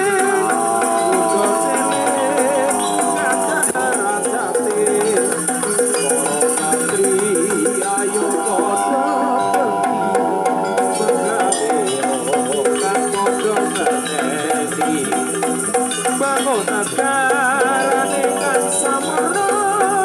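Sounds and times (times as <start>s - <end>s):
rhythmic percussion: 0.0s - 20.0s
wavering melody line: 0.0s - 20.0s.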